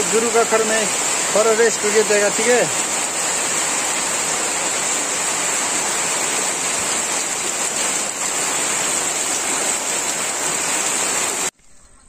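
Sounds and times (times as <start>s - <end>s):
heavy rain on metal roofs: 0.0s - 11.5s.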